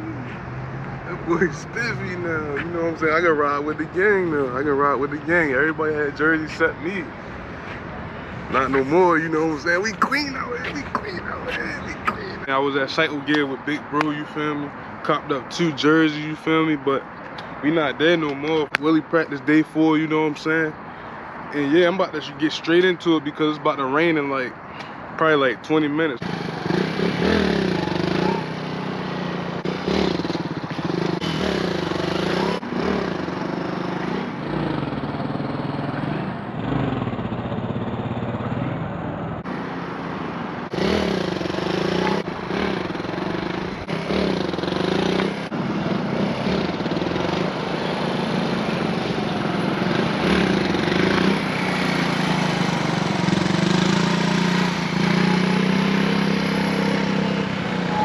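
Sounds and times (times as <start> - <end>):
motorcycle engine revving: 0.0 - 7.1, 8.5 - 16.8, 26.1 - 58.0.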